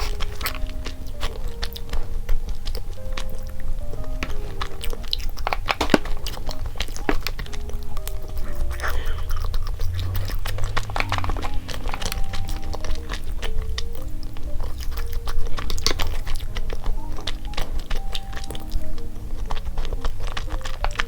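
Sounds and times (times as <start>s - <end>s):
chewing mouth clicks: 0.0s - 21.0s
light background music: 0.0s - 21.0s.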